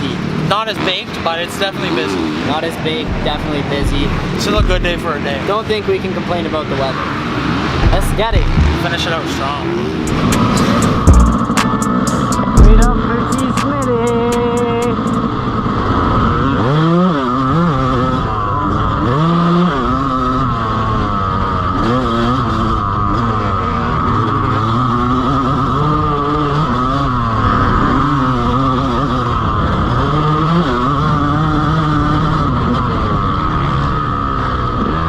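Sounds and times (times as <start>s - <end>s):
dirt bike engine revving: 0.0s - 5.6s, 6.5s - 35.0s.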